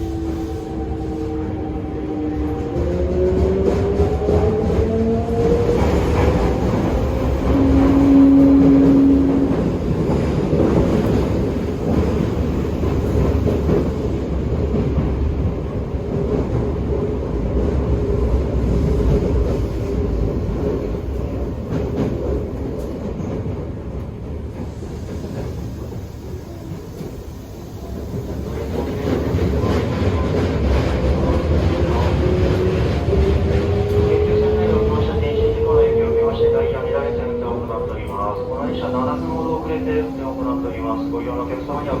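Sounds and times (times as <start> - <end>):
train wheel and rail noise: 0.0 - 42.0.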